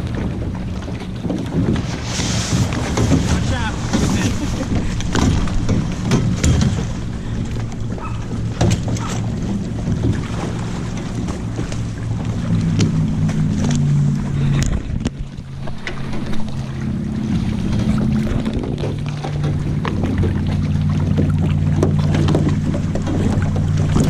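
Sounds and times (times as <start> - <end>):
water moving against hull: 0.0 - 24.0
wind buffeting microphone: 0.0 - 24.0.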